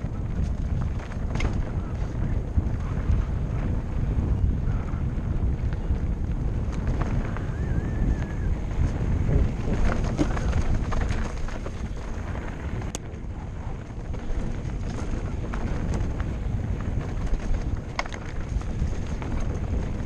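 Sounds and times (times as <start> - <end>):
bike rattling over bumps: 0.0 - 20.0
tyres rolling on dirt and stones: 0.0 - 20.0
wind buffeting microphone: 0.0 - 20.0.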